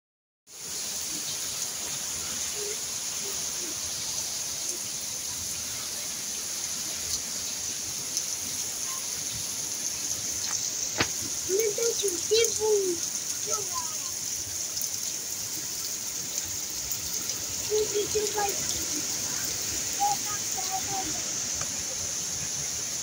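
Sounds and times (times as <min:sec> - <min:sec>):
heavy rain falling: 0:00.5 - 0:23.0.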